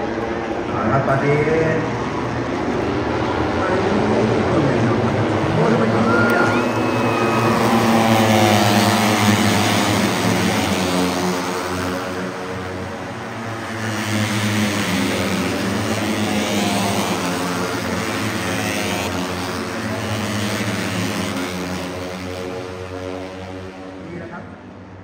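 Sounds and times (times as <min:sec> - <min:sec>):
racing motorcycles accelerating: 0:00.0 - 0:25.0
steady low engine drone: 0:00.0 - 0:25.0.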